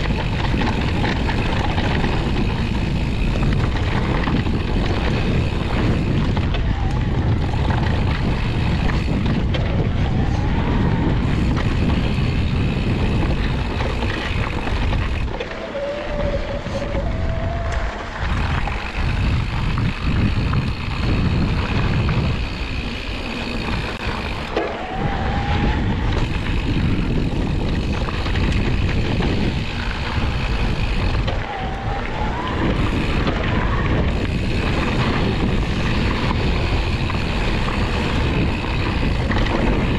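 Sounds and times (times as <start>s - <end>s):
bike tyres rumbling over dirt: 0.0s - 39.9s
wind on microphone: 0.0s - 39.9s.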